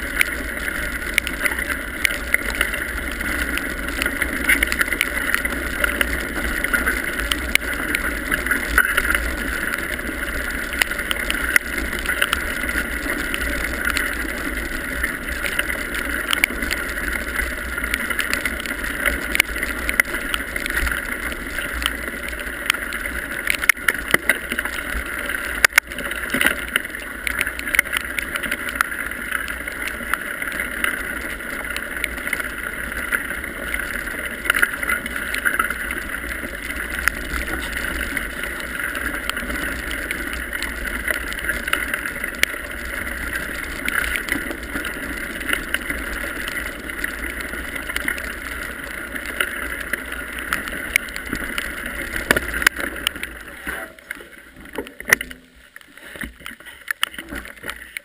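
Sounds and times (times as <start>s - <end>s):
bike tyres rumbling on gravel: 0.0s - 58.0s.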